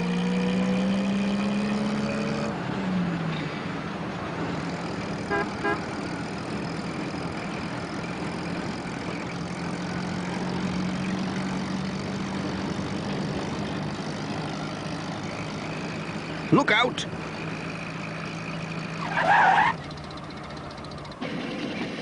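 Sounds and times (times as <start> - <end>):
van engine running: 0.0 - 0.8, 1.4 - 22.0.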